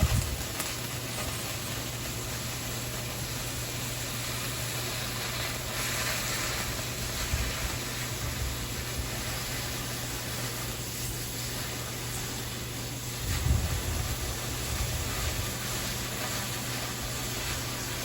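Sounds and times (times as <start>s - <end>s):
cutting torch hissing: 0.0s - 18.0s.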